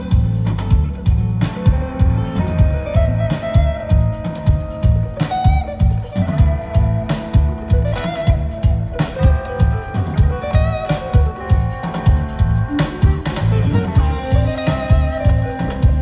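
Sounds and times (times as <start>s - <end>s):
bass guitar: 0.0s - 16.0s
drum kit beat: 0.0s - 16.0s
electric guitars bending notes: 0.0s - 16.0s.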